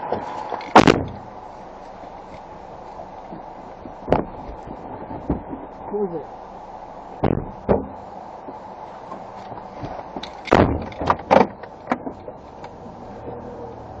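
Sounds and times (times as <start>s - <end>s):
knocks and rustles: 0.0s - 6.0s, 7.2s - 12.8s.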